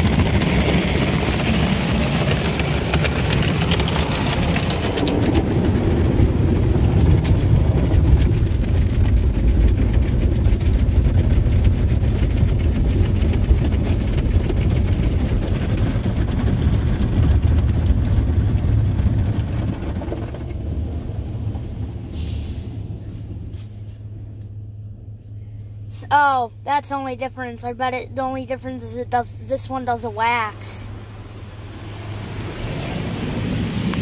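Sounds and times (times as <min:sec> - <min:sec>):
car wash brushes and water spray: 0:00.0 - 0:26.2, 0:29.1 - 0:34.0
low rumble: 0:00.0 - 0:34.0.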